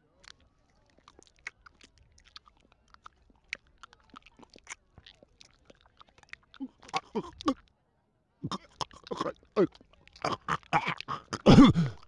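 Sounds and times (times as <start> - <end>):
wet mouth clicks and tongue smacks: 0.2 - 7.7, 8.5 - 12.0.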